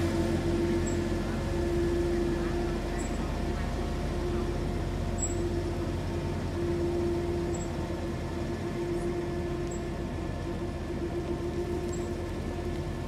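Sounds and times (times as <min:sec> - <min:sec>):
constant mid-pitched tone: 0:00.0 - 0:13.0
road roller diesel engines droning: 0:00.0 - 0:13.0.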